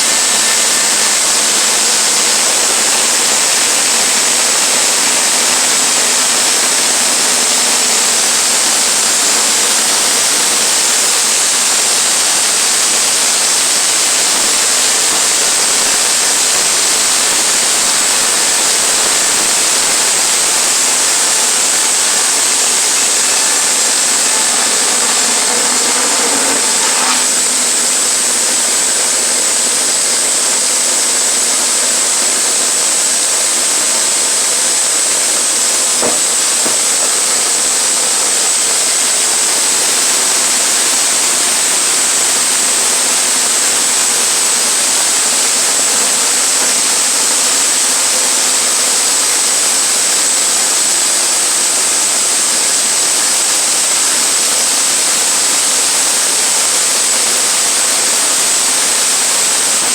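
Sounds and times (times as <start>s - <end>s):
sawmill blade cutting log: 0.0s - 59.9s.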